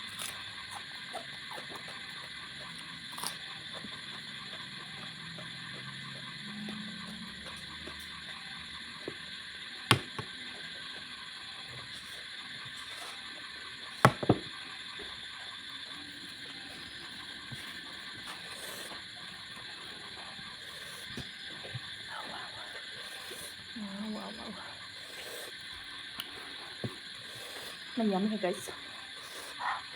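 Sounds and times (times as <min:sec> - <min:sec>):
eating sounds: 0:00.0 - 0:09.6, 0:15.5 - 0:29.9.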